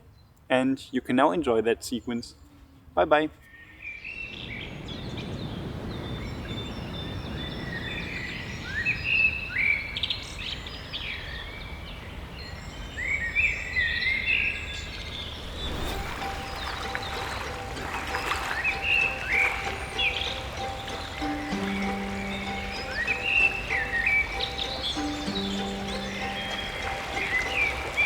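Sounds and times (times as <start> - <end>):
birds chirping: 0.0 - 28.0
outdoor background hiss: 0.0 - 28.0.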